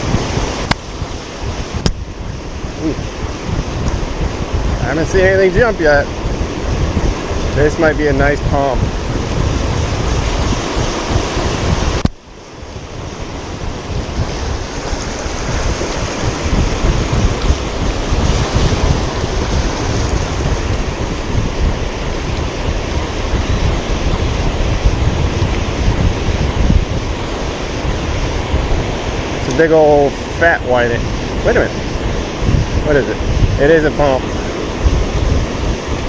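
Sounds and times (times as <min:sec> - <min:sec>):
surf breaking on beach: 0:00.0 - 0:36.0
wind buffeting microphone: 0:00.0 - 0:36.0.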